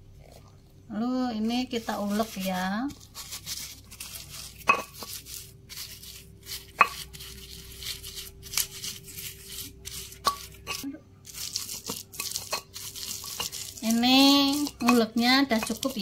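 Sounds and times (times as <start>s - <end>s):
stone pestle grinding in mortar: 1.7s - 16.0s.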